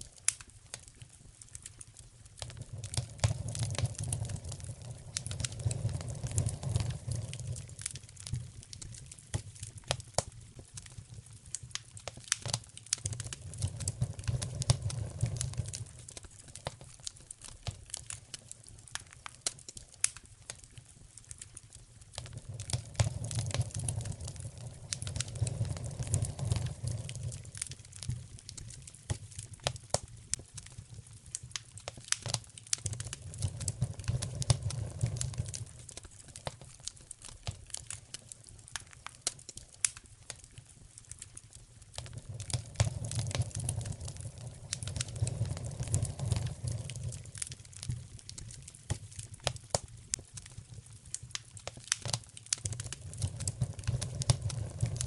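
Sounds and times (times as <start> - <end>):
wood fire crackling: 0.0 - 55.0
flame rushing: 1.7 - 18.2, 22.1 - 55.0.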